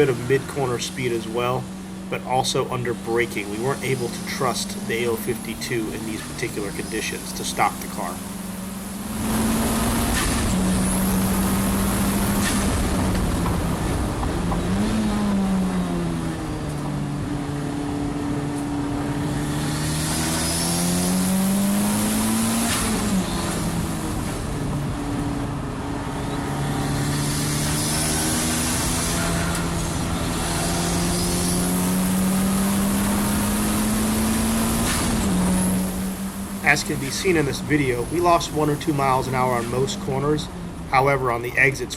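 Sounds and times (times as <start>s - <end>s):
race car engine revving: 0.0s - 41.9s.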